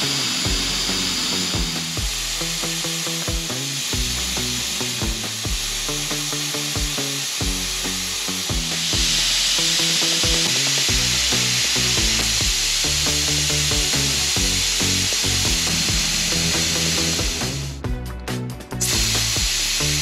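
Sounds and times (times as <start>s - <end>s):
air hissing out of tire valve: 0.0s - 17.8s, 18.8s - 20.0s
background music with steady beat: 0.0s - 20.0s.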